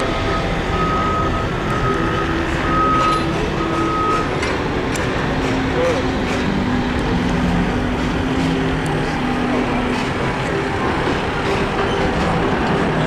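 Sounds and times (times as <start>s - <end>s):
diesel machinery engine rumbling: 0.0s - 13.0s.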